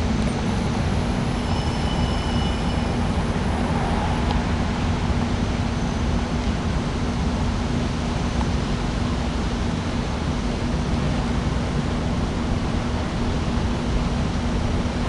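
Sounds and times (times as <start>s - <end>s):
air conditioner fan rushing: 0.0s - 15.0s
constant low hum: 0.0s - 15.0s.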